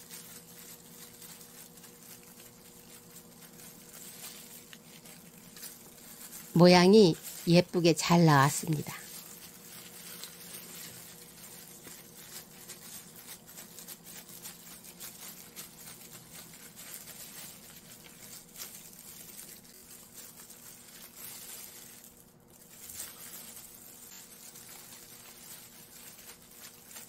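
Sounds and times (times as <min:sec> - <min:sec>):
faint steady hum: 0:00.0 - 0:27.0
plastic gloves crinkling: 0:00.0 - 0:27.0.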